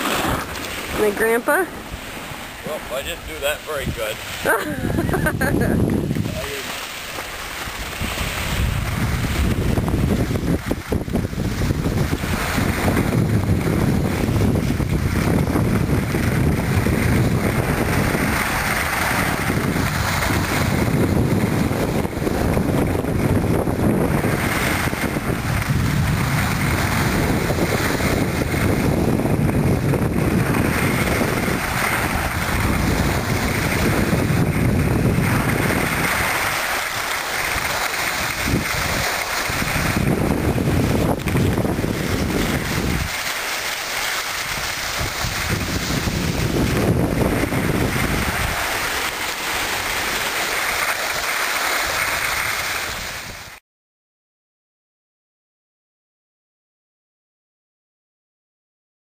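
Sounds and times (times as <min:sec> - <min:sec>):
skis hissing over snow: 0:00.0 - 0:53.6
wind rushing over microphone: 0:00.0 - 0:53.6.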